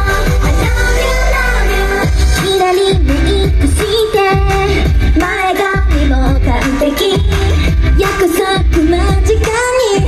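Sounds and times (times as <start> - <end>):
high female voices singing: 0.0 - 10.0
pop backing track with bass beat: 0.0 - 10.0.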